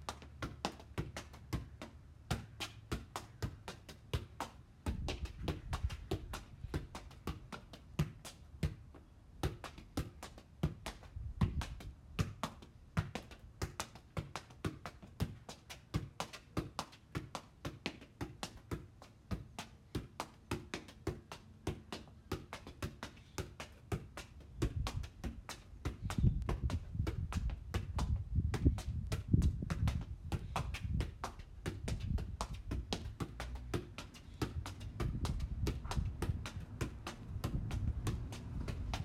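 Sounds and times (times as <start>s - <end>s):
ball taps on concrete: 0.0s - 8.8s, 9.5s - 18.8s, 19.4s - 39.0s.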